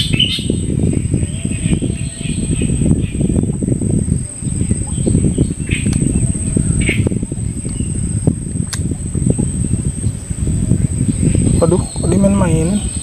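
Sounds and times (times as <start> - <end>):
rumbling crackling microphone noise: 0.0 - 13.0.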